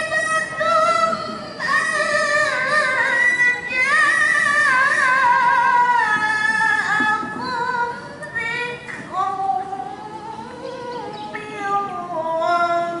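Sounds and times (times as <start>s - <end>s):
woman reciting melodically: 0.0s - 13.0s.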